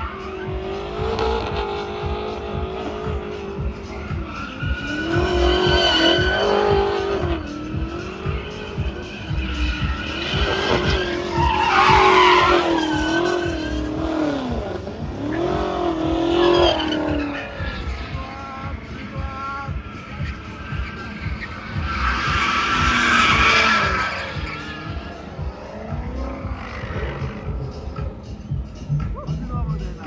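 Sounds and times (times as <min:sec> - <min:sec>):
car engine revving: 0:00.0 - 0:30.0
tyres squealing: 0:02.4 - 0:27.3.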